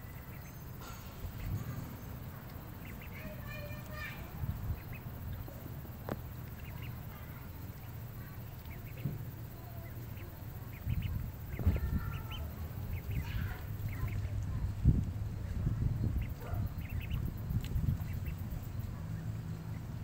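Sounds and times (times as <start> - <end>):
ducks quacking: 0.0 - 14.4, 16.0 - 20.0
steady low rumble: 0.0 - 20.0.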